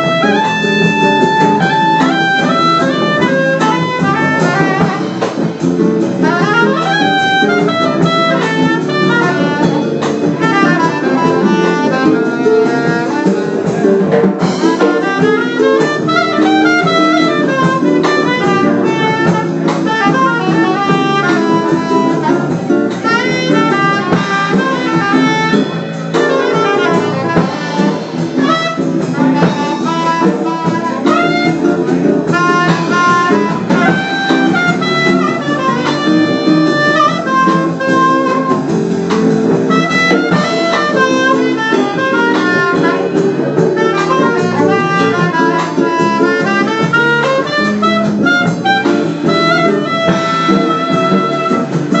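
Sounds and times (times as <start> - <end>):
jazz accompaniment: 0.0 - 52.0
saxophone jazz melody: 0.0 - 52.0.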